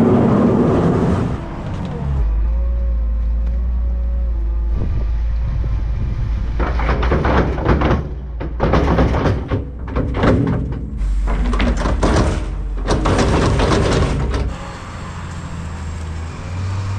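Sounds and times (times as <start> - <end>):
wheel loader engine running: 0.0 - 16.9.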